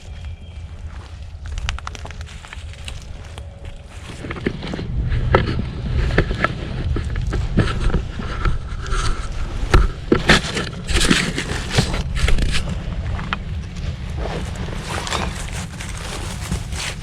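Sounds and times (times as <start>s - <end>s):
footsteps through dry ground cover: 0.0s - 17.0s
wind rumbling on microphone: 0.0s - 17.0s.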